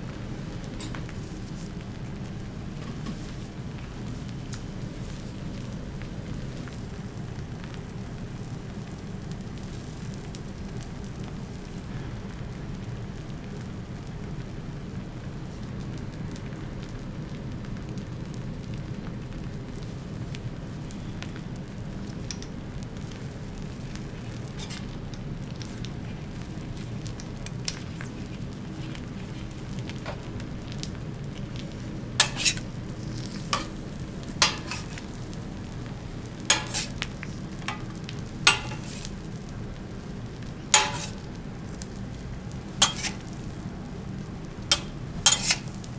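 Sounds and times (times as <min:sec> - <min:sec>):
food sizzling on a griddle: 0:00.0 - 0:45.9.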